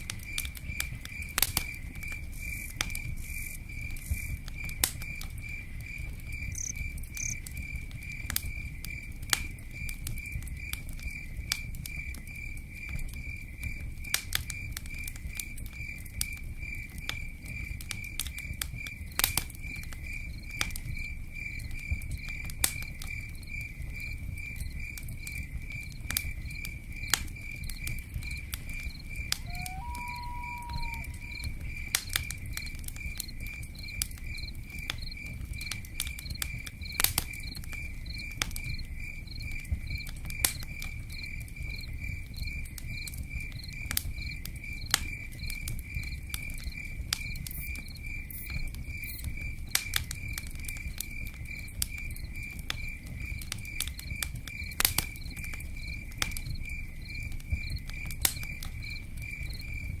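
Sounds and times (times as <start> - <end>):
campfire crackling and popping: 0.0 - 60.0
cricket chirping: 0.0 - 60.0.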